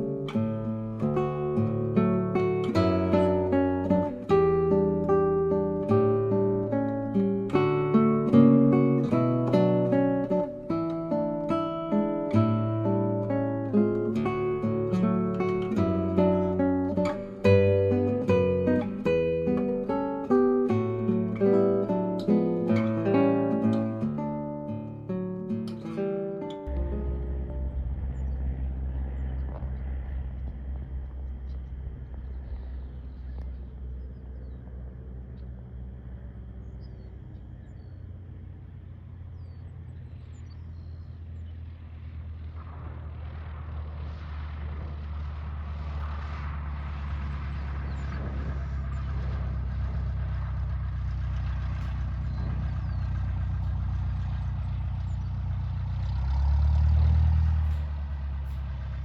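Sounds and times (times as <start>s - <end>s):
engine running with low hum: 0.0s - 59.0s.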